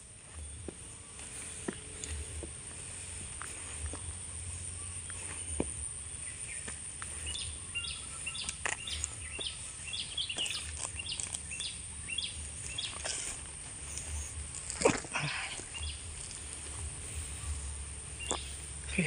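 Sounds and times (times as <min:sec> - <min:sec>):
birds chirping: 0:00.0 - 0:19.0
footsteps on dry leaves: 0:00.0 - 0:19.0
steady high hiss: 0:00.0 - 0:19.0.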